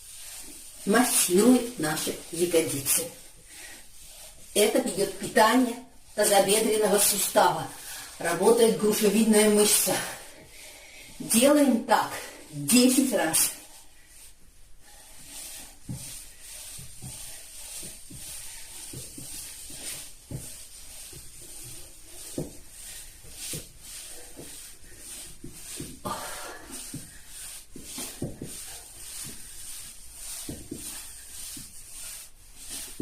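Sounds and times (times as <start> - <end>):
clothing rubbing on floor: 0.0 - 10.5, 11.1 - 33.0.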